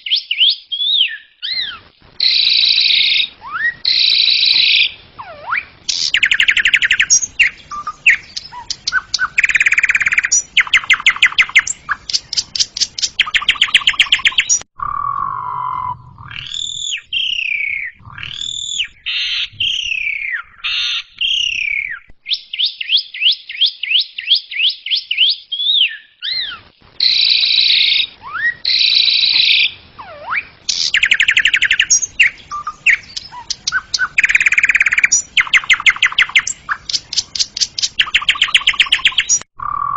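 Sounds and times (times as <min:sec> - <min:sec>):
starling singing trills and whistles: 0:00.0 - 0:39.9.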